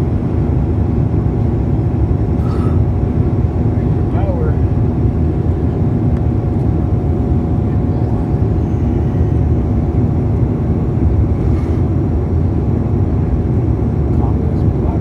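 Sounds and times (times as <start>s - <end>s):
airliner engines and rushing air: 0.0s - 15.0s.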